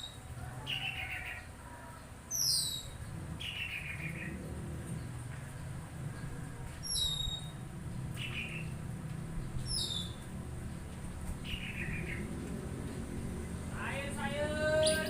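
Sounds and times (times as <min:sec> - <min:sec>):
steady low hum: 0:02.1 - 0:15.0.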